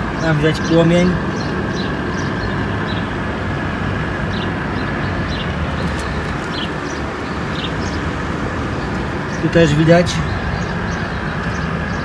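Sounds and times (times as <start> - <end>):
gas burners rushing: 0.0 - 12.0.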